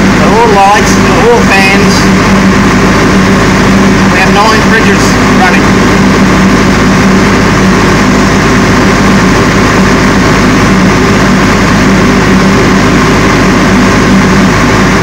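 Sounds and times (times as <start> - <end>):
diesel generator humming: 0.0 - 15.0.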